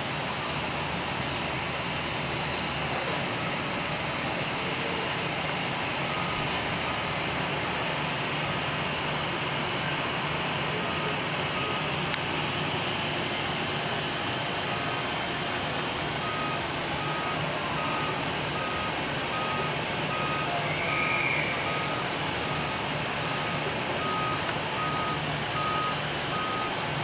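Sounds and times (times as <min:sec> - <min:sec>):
engine rumble and hiss: 0:00.0 - 0:27.0.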